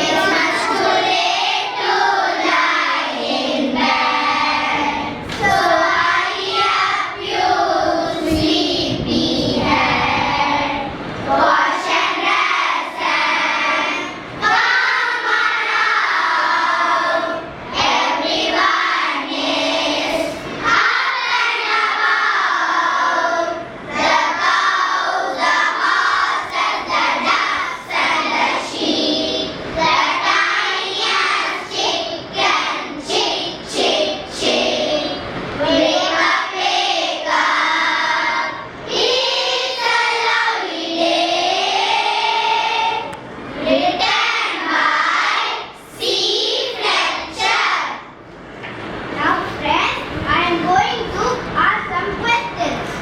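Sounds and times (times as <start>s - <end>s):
children singing: 0.0s - 48.0s.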